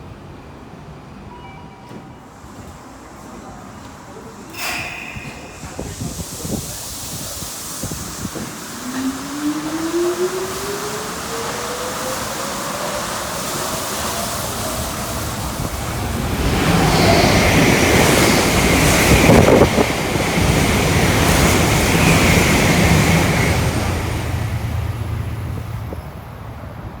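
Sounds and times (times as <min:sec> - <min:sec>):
train rushing noise: 0:02.2 - 0:27.0.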